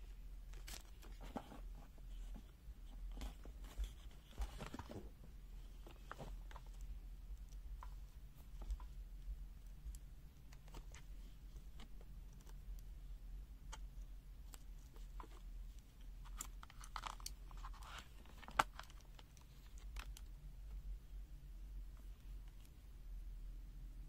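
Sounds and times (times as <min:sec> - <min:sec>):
low steady hum: 0:00.0 - 0:24.0
small clicks and rustles: 0:00.4 - 0:20.9, 0:21.9 - 0:22.8.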